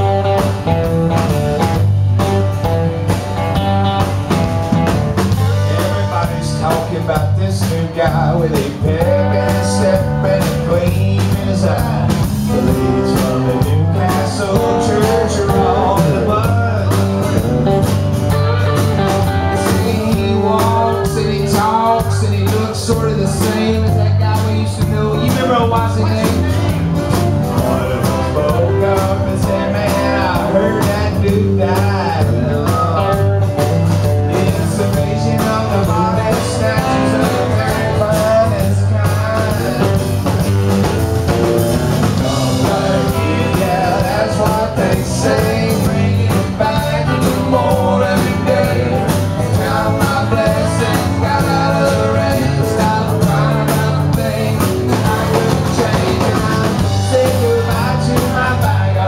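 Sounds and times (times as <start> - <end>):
country-rock band playing: 0.0 - 59.0
electric guitar lead line: 0.0 - 59.0.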